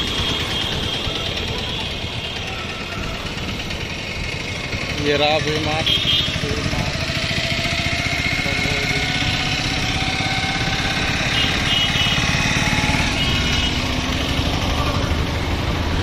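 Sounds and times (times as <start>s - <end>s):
motorcycle engine running: 0.0s - 16.0s
road and traffic noise: 0.0s - 16.0s.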